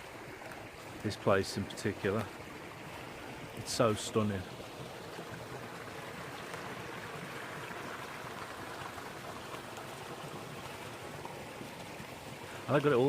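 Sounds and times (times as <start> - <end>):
brook babbling: 0.0 - 13.0
rain pattering: 0.0 - 13.0.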